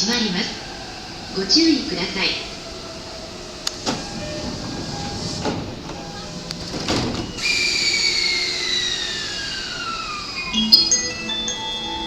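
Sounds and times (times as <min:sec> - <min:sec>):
train traction motor whine: 0:00.0 - 0:12.0.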